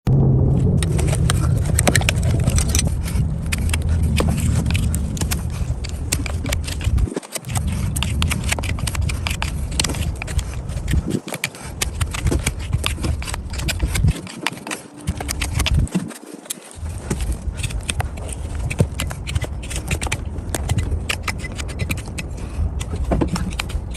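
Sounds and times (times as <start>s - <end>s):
low rumble: 0.0s - 14.3s, 15.0s - 16.0s, 16.8s - 23.9s
tools clicking and scraping hoof: 0.8s - 23.9s.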